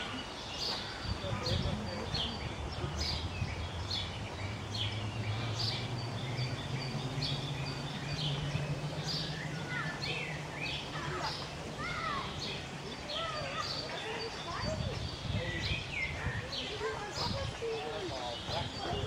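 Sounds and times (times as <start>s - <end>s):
other bird calls: 0.0s - 19.0s
small birds chirping: 0.0s - 19.0s.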